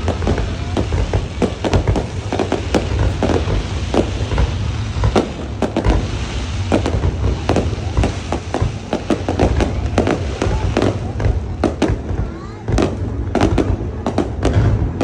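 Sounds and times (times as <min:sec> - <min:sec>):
deep rumble: 0:00.0 - 0:15.0
fireworks bangs: 0:00.0 - 0:15.0.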